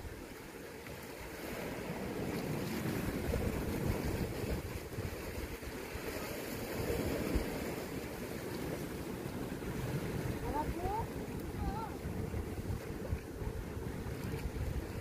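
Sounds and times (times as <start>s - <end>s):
sea waves on rocks: 0.0s - 15.0s
wind gusting across microphone: 1.3s - 15.0s.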